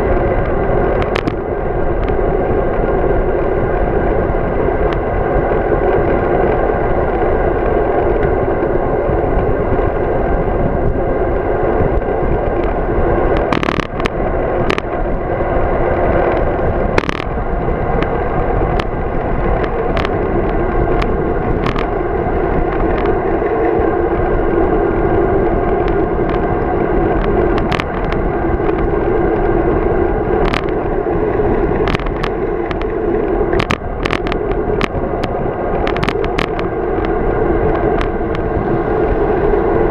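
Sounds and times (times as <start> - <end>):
bike tyre noise: 0.0 - 39.9
wind rush: 0.0 - 39.9.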